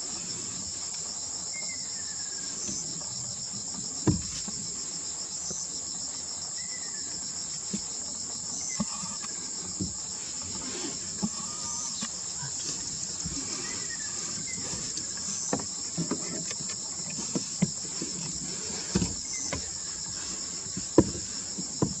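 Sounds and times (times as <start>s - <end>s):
high insect chorus: 0.0s - 22.0s.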